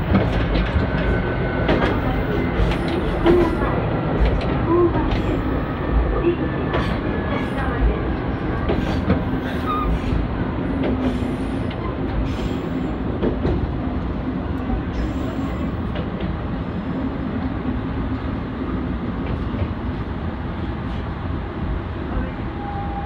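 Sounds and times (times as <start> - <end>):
rail joint clicks: 0.0 - 16.6, 17.2 - 20.0
railcar engine drone: 0.0 - 23.0.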